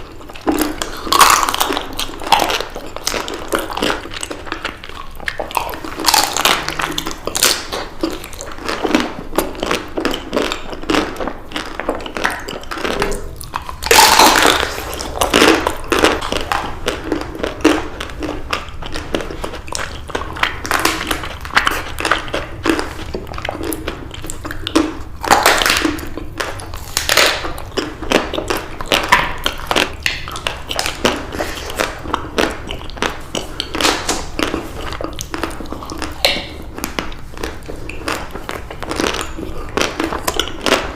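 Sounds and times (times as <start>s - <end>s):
biting and chewing ice cream: 0.0s - 40.9s.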